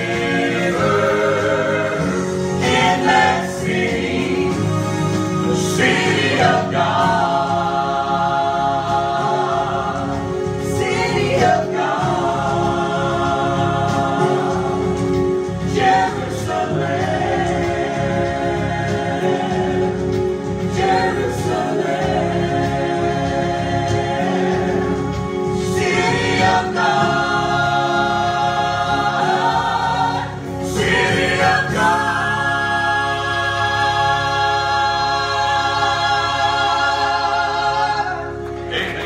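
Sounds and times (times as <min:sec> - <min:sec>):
gospel group singing in harmony: 0:00.0 - 0:39.0.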